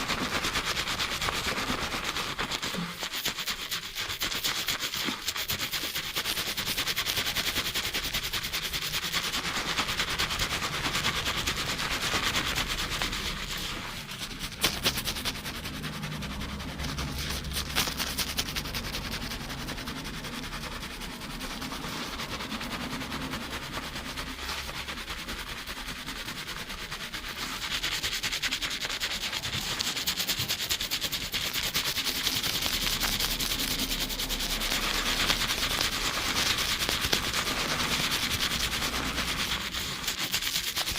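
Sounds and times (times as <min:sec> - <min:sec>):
fingers scrubbing lathered hair: 0:00.0 - 0:40.9.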